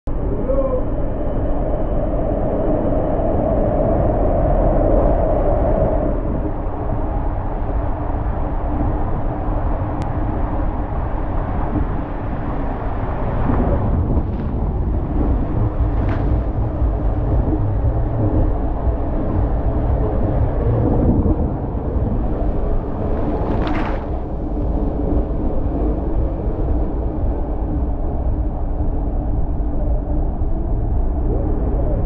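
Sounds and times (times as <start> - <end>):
low buffeting: 0.1 - 32.0
rushing water and air: 0.9 - 32.0.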